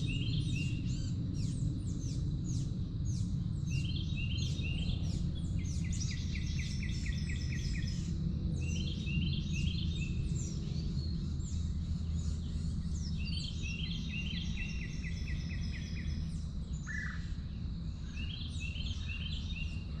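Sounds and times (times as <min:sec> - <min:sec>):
low background rumble: 0:00.0 - 0:20.0
songbirds singing trilled phrases: 0:00.0 - 0:20.0.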